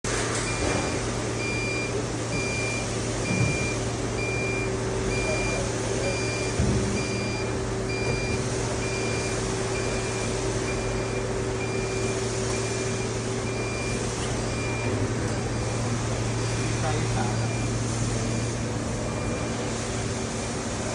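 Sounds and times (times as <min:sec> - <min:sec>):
factory machinery hum: 0:00.1 - 0:20.9.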